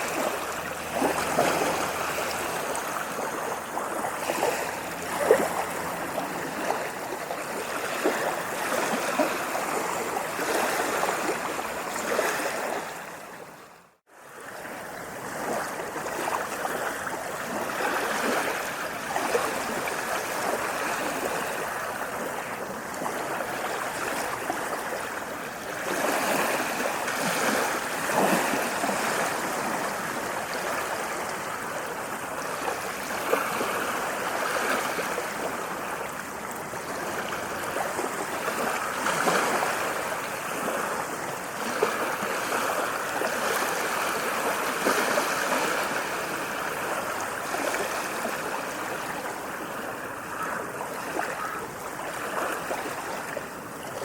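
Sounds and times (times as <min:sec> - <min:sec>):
water rushing and splashing: 0:00.0 - 0:54.0.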